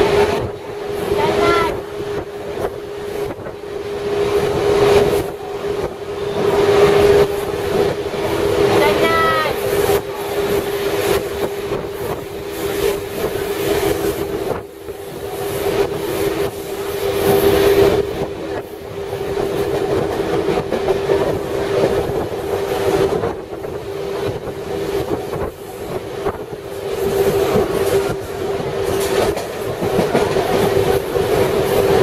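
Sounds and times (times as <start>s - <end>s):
train rumble: 0.0s - 32.0s
train wheels clacking: 0.0s - 32.0s.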